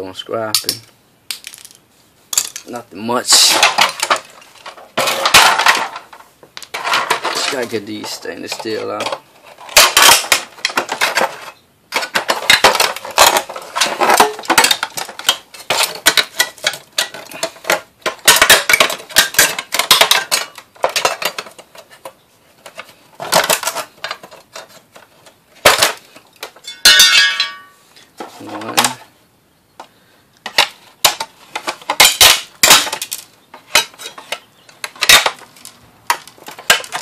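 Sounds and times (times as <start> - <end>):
metal parts clattering and clinking: 1.4 - 22.0, 22.6 - 29.0, 30.4 - 37.0.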